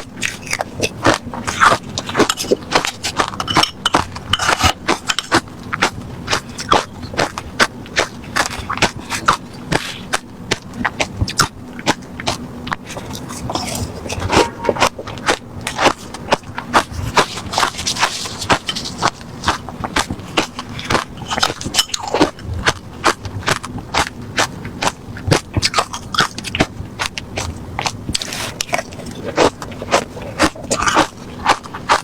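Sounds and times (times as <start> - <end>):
chewing crushed ice: 0.0 - 32.0.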